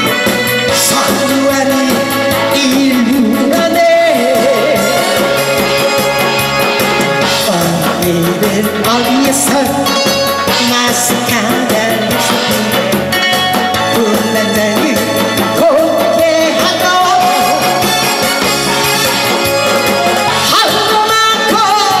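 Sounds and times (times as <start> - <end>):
woman singing into a microphone: 0.0 - 5.6, 7.1 - 18.0, 20.2 - 22.0
rhythmic backing track: 0.0 - 22.0.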